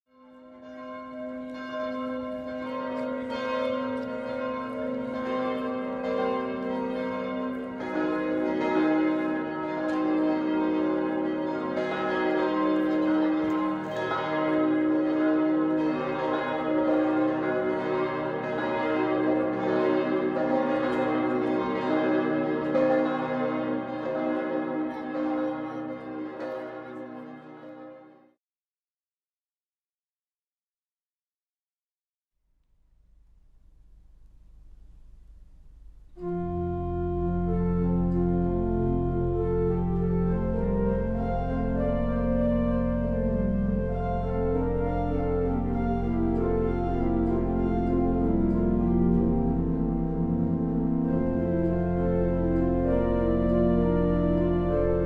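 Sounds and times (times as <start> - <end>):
church bells ringing: 0.2 - 28.3, 36.1 - 55.0.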